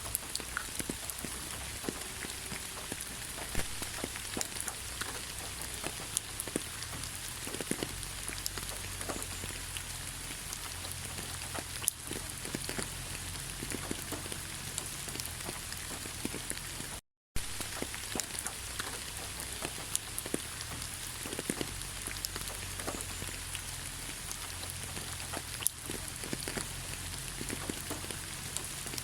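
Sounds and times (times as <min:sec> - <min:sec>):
rain drops pattering: 0:00.0 - 0:29.0.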